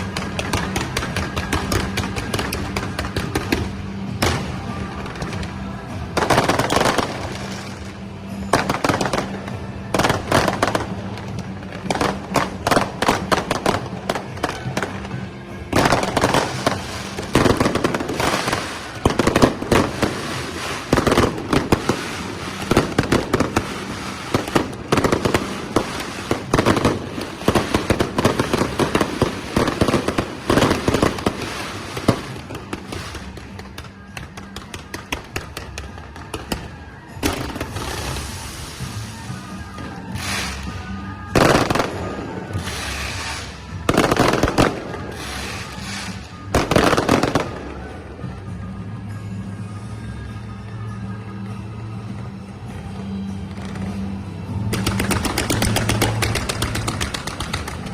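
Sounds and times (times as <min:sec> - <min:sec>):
firecrackers cracking and banging: 0:00.0 - 0:49.2, 0:53.4 - 0:57.9
music: 0:00.0 - 0:57.9.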